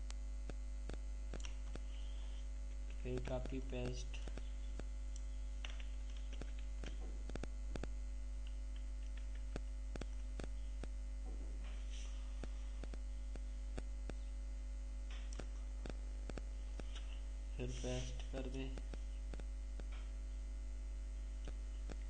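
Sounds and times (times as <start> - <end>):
mains hum: 0.0 - 22.0.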